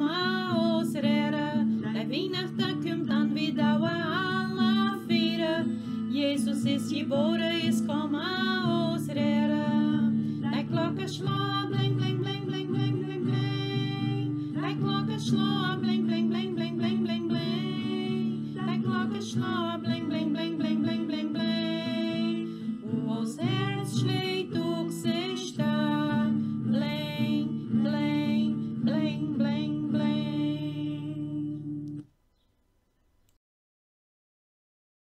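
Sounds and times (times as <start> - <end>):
person singing: 0.0 - 32.0
acoustic guitar: 0.0 - 32.1.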